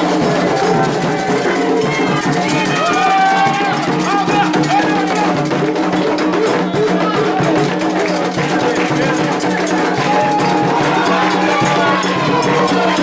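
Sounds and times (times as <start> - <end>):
hand percussion with rattle strokes: 0.0 - 13.0
voices singing together: 0.0 - 13.0.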